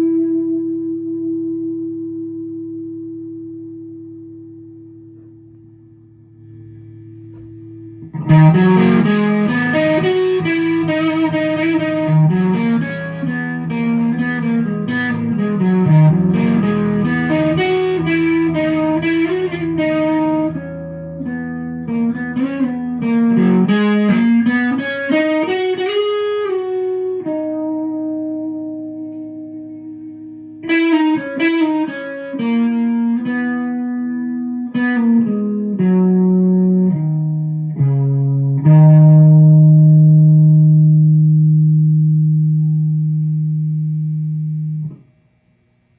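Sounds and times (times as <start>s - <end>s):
electric guitar playing: 0.0s - 45.1s.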